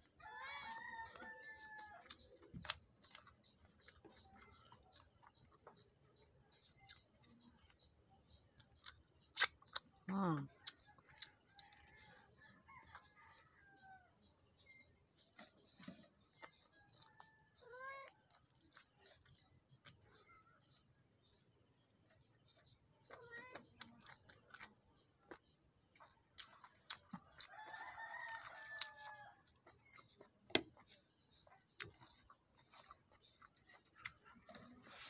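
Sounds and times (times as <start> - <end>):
clicks and smacks of eating: 0.0 - 13.5, 15.3 - 35.0.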